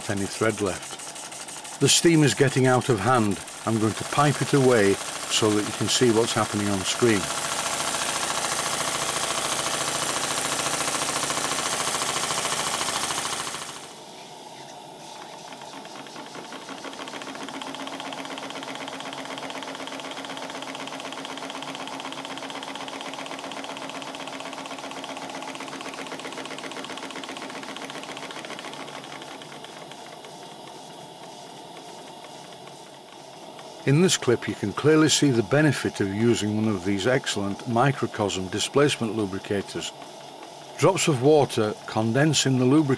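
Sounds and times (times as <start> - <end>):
model steam engine running: 0.0 - 42.9
steam hissing: 0.0 - 42.9.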